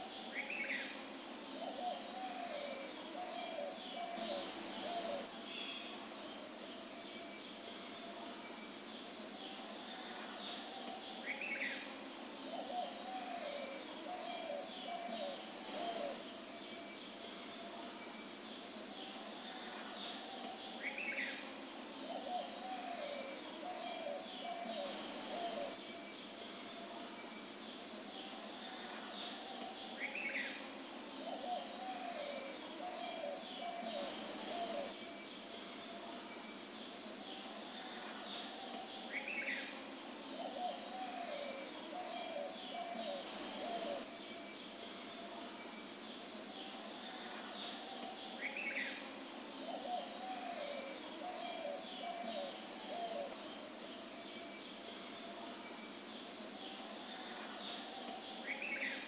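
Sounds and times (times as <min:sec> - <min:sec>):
steady high-pitched hiss: 0:00.0 - 0:59.0.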